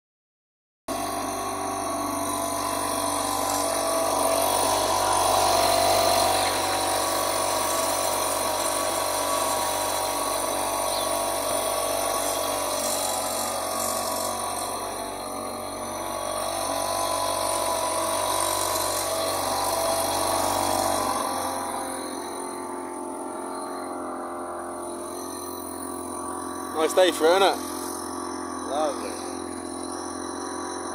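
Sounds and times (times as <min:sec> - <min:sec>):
boat engine whine: 0:00.9 - 0:30.9
boat engine low hum: 0:01.0 - 0:29.9.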